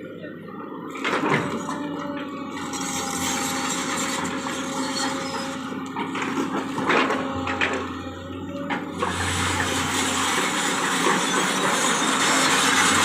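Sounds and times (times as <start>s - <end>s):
backhoe engine hum: 0.0s - 13.0s
rough scraping noise: 2.6s - 13.0s.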